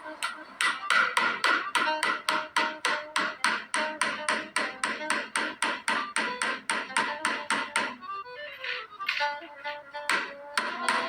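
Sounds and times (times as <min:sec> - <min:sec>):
background music: 0:00.0 - 0:11.0
hammering nails into wood: 0:00.2 - 0:08.1, 0:09.1 - 0:11.0.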